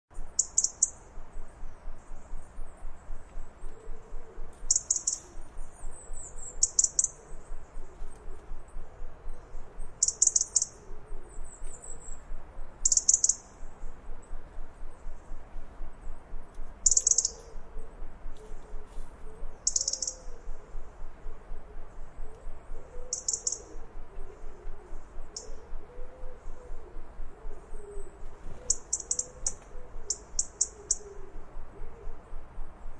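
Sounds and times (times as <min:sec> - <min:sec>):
robin alarm ticks: 0:00.1 - 0:32.9.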